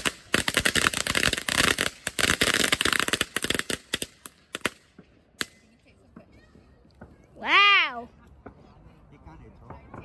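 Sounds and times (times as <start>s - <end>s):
fireworks crackling: 0.0s - 8.6s.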